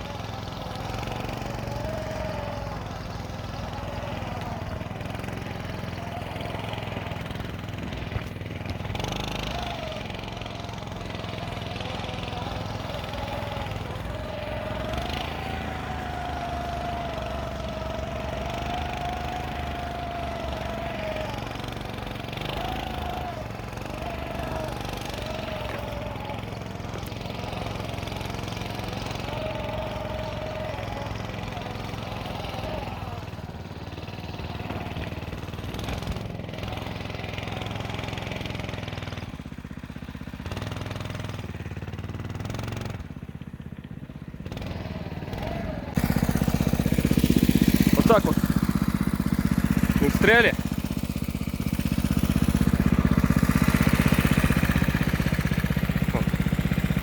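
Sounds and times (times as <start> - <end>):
snow scooter engine running: 0.0 - 57.0.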